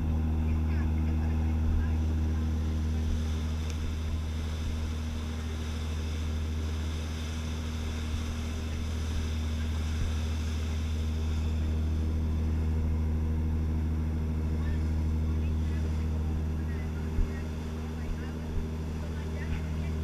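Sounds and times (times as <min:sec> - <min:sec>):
boat engine humming: 0:00.0 - 0:20.0
water churning along hull: 0:00.0 - 0:20.0.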